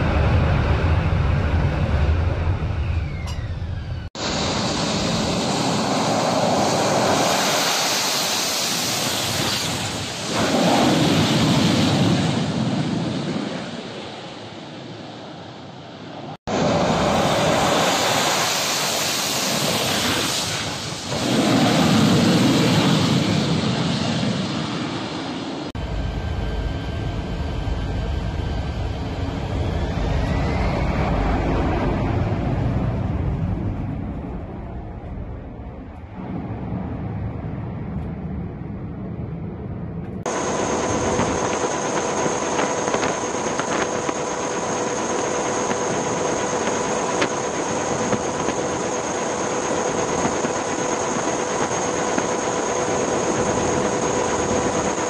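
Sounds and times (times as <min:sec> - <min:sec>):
jet engine roar: 0:00.0 - 0:55.0
low jet rumble: 0:00.0 - 0:55.0.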